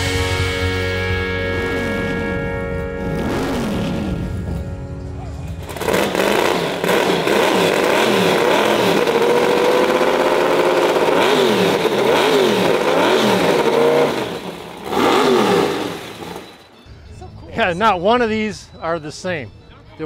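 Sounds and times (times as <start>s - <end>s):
engine revving: 0.0s - 16.8s.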